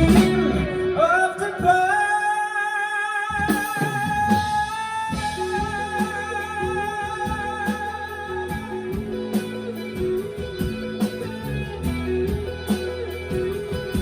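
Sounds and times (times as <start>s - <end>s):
live rock band playing: 0.0s - 2.2s, 3.3s - 14.0s
electric guitar: 0.0s - 14.0s.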